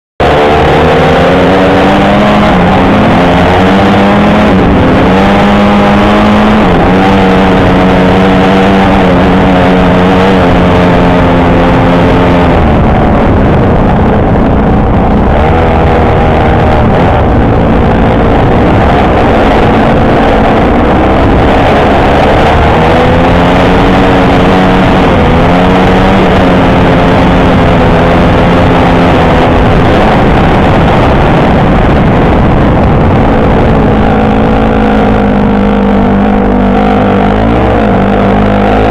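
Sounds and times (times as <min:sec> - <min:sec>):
constant rushing noise: 0:00.2 - 0:38.9
dirt bike engine revving: 0:00.2 - 0:38.9.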